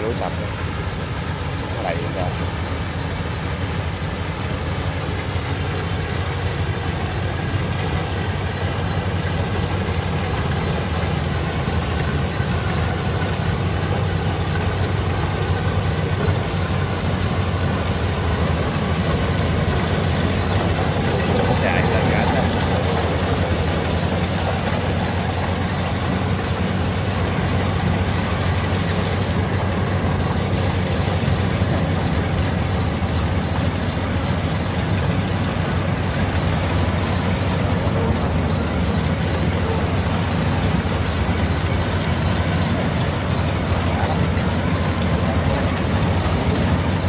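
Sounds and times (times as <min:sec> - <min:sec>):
combine harvester engine drone: 0:00.0 - 0:47.0.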